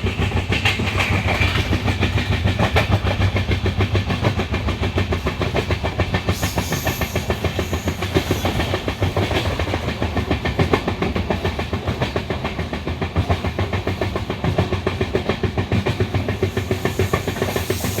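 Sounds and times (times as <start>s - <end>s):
low train rumble: 0.0s - 18.0s
train wheels clattering over rail joints: 0.0s - 18.0s.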